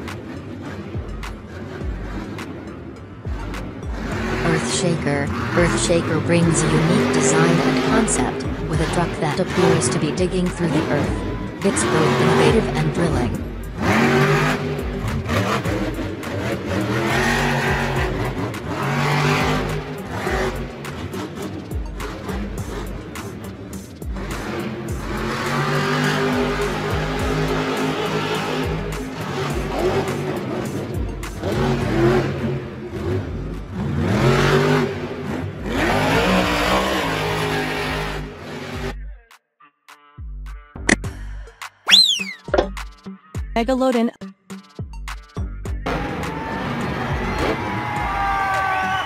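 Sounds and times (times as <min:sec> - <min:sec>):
truck engine revving: 0:00.0 - 0:39.1, 0:45.7 - 0:49.0.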